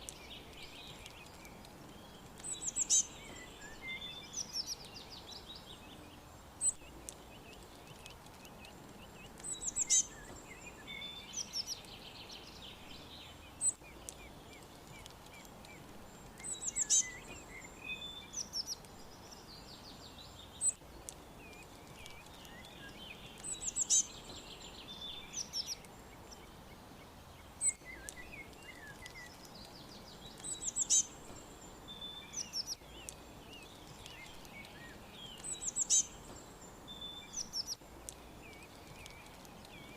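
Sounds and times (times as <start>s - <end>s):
faint hiss: 0.0s - 39.9s
songbirds singing: 0.0s - 39.9s.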